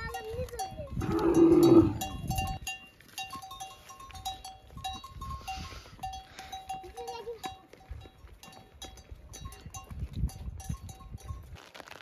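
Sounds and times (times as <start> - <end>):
small metal bells clinking: 0.0 - 11.6.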